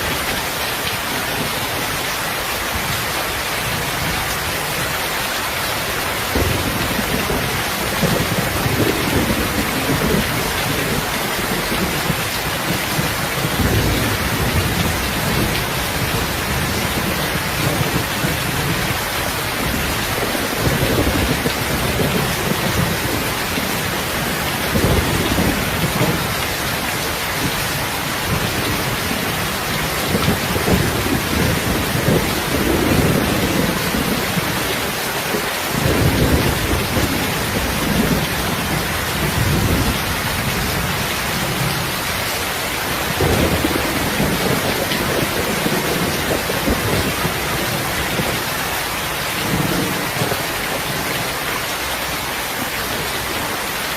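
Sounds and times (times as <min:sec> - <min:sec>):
rain hiss: 0:00.0 - 0:53.9.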